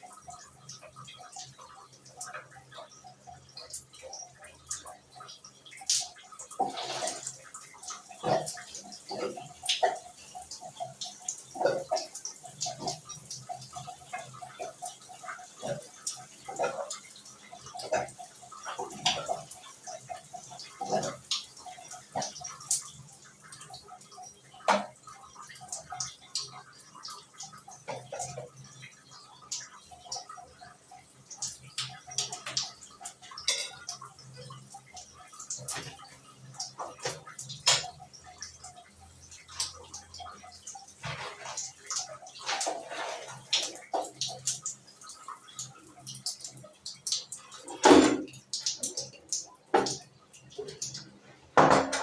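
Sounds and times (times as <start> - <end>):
water sounds: 0.0 - 52.0.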